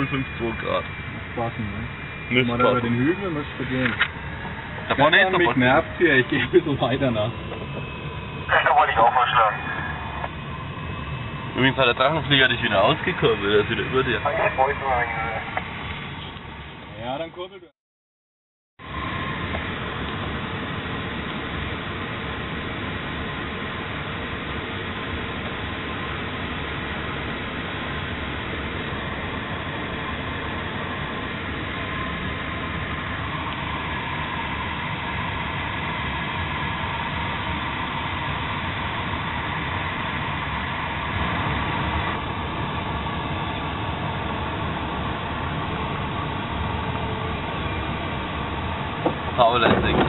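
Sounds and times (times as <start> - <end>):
airflow rushing in cockpit: 0.0 - 17.2, 18.8 - 50.0.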